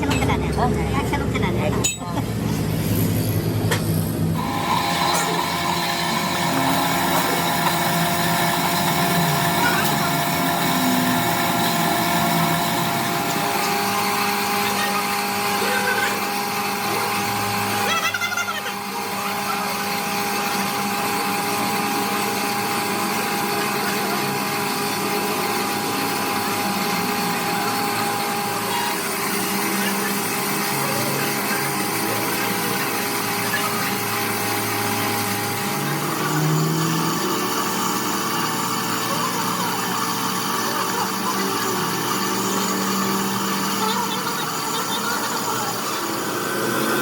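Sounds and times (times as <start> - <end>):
power tool whining: 2.4 - 47.0.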